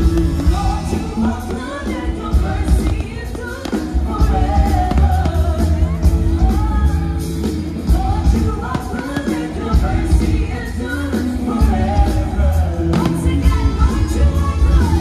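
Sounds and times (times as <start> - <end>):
singing over heavy bass music: 0.0 - 15.0.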